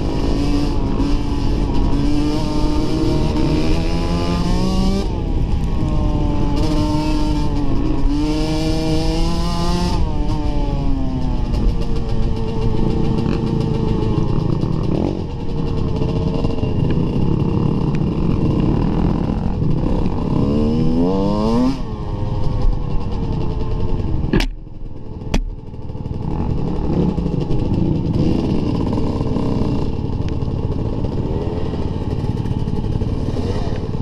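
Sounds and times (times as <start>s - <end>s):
dirt bike engine revving: 0.0s - 24.5s, 25.9s - 34.0s.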